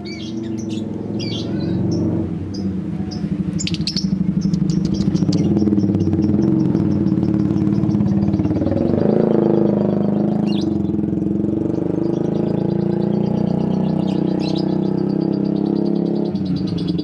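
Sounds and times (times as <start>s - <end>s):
engine running: 0.0s - 17.0s
high bird chirps: 0.0s - 17.0s.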